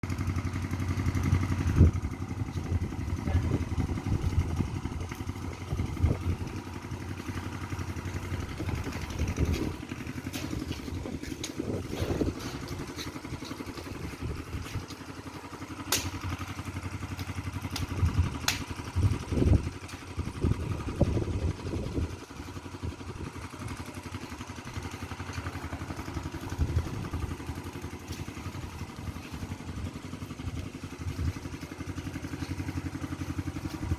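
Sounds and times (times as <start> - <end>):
engine running: 0.0 - 33.9.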